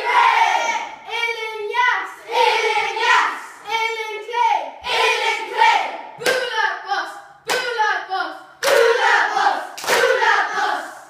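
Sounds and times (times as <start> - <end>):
boys chanting in unison: 0.0 - 11.0.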